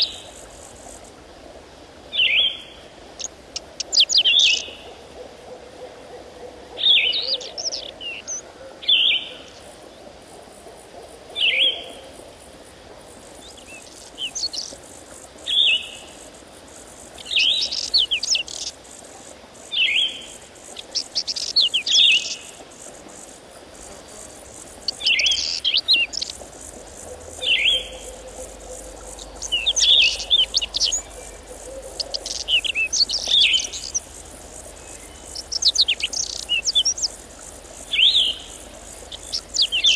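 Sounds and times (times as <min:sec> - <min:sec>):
faint steady background noise: 0:00.0 - 0:39.9
songbirds chirping: 0:02.1 - 0:10.5, 0:11.4 - 0:39.9.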